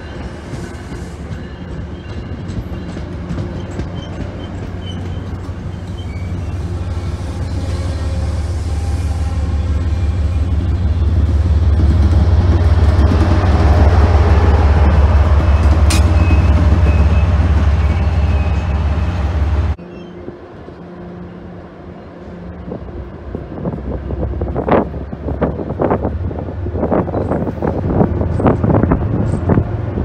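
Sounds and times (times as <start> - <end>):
train passing close by: 0.0 - 30.0.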